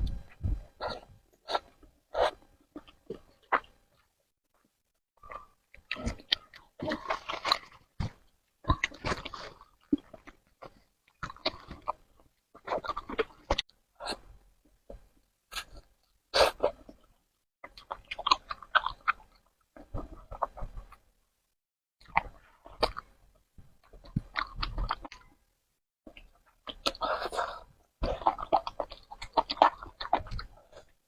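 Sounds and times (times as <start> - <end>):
person chewing noodles: 0.0 - 4.1, 5.2 - 17.1, 17.7 - 21.0, 22.0 - 23.2, 23.8 - 25.4, 26.1 - 31.0.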